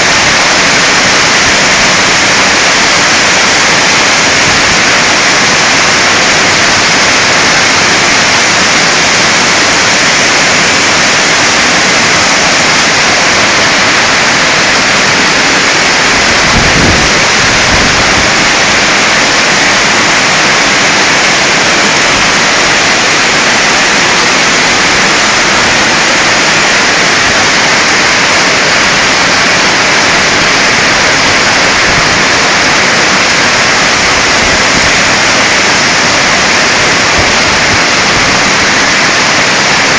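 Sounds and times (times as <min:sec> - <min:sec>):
hail and rain pouring: 0:00.0 - 0:39.9.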